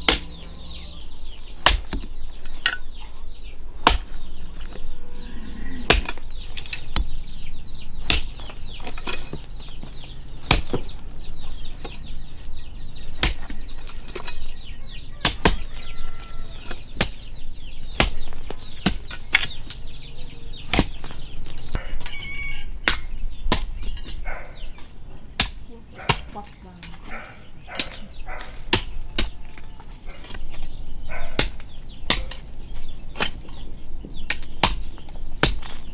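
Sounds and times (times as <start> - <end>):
poultry chirping: 0.0 - 25.2, 25.9 - 35.9.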